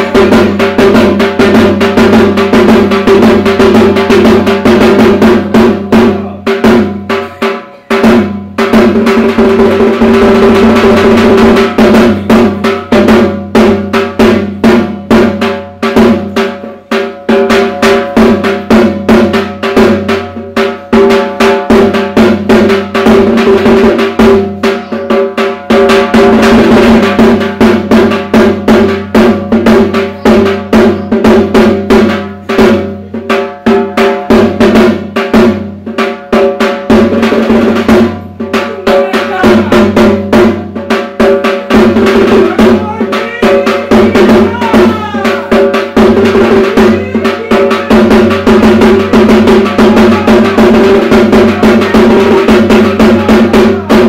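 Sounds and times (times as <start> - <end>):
barrel drum beaten with sticks: 0.0 - 54.0.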